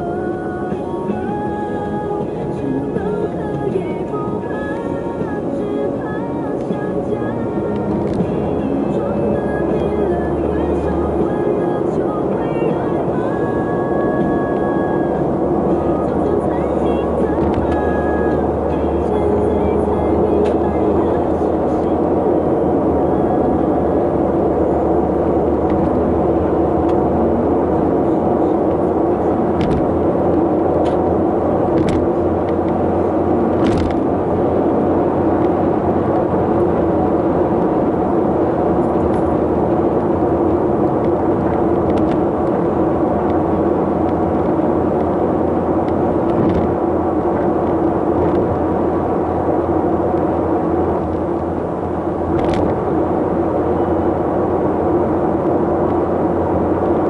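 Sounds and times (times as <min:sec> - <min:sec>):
vehicle engine and tyre noise: 0:00.0 - 0:57.0.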